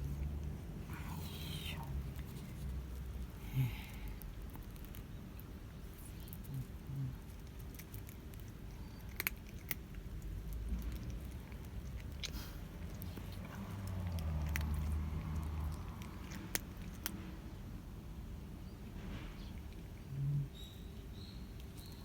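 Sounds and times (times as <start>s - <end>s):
cat chewing food: 0.0s - 22.0s.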